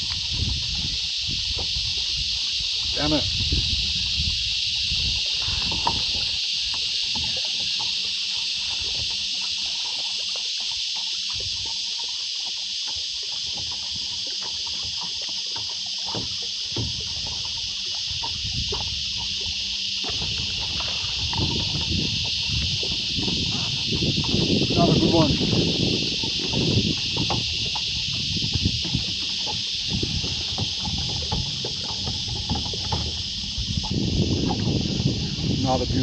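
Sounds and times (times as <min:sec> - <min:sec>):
insects droning: 0:00.0 - 0:36.0
water sounds: 0:00.0 - 0:36.0.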